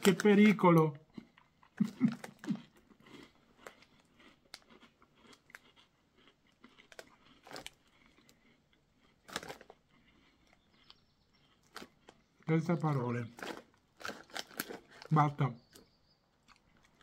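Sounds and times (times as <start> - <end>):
person chewing crunchy snacks: 0.0 - 17.0.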